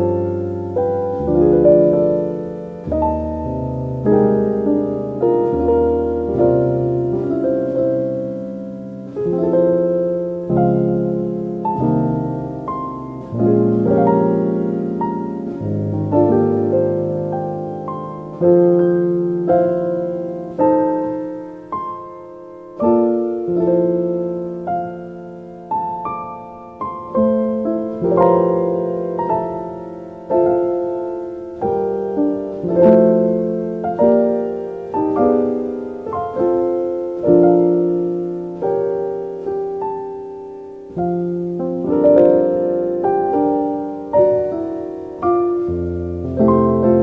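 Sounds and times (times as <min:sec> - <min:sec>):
slow solo piano: 0:00.0 - 0:47.0.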